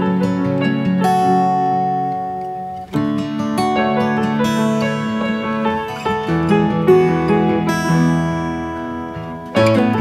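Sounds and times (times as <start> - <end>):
acoustic guitar: 0.0 - 10.0
instrumental country music: 0.0 - 10.0.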